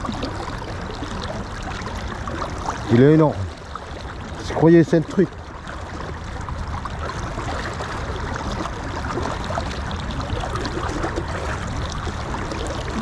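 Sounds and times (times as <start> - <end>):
river water rushing and splashing: 0.0 - 13.0.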